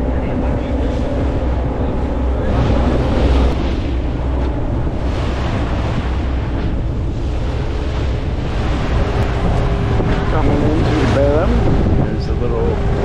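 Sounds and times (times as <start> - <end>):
boat engine rumble: 0.0 - 13.0
boat wake wash: 0.0 - 13.0
wind buffeting microphone: 0.0 - 13.0.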